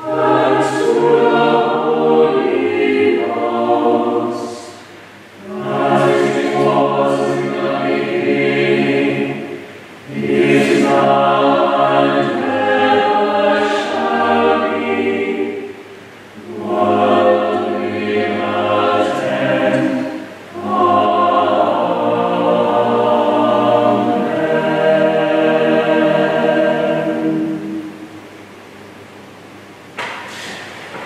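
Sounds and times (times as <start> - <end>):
choir chanting: 0.0 - 28.3.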